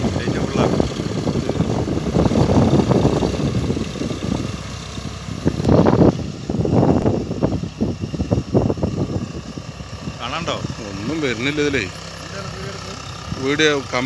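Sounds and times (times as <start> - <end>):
tractor diesel engine rumbling: 0.0 - 14.0.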